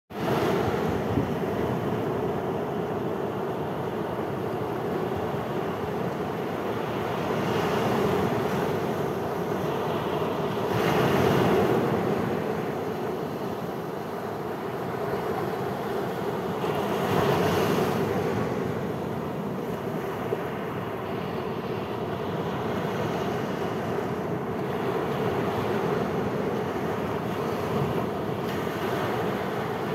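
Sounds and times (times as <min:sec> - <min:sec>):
waves breaking on sandy beach: 0:00.1 - 0:29.9.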